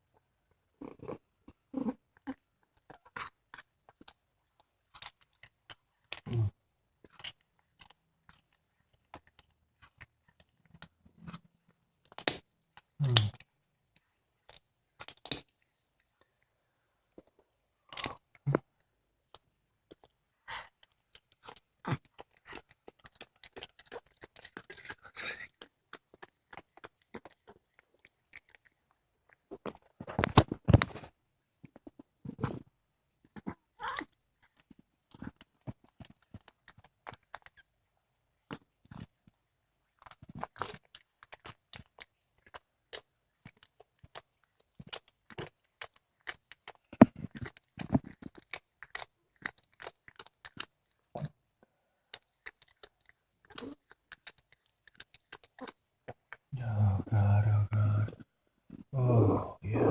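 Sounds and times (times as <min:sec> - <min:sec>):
cat chewing and crunching bones: 0:00.2 - 0:56.5.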